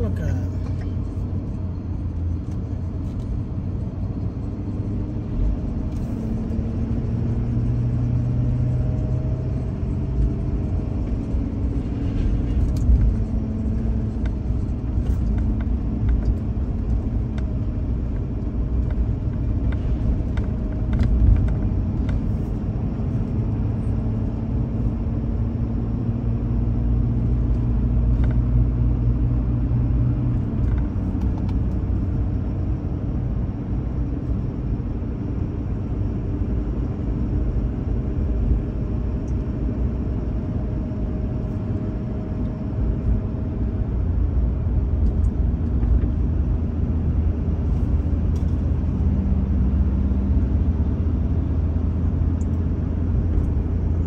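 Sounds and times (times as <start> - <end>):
road rumble: 0.0 - 54.0
truck engine drone: 0.0 - 54.0.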